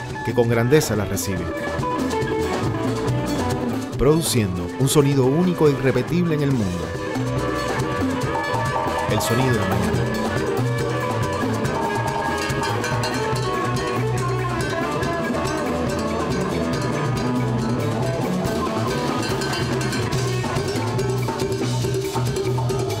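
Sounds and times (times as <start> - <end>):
latin dance band music: 0.0 - 23.0.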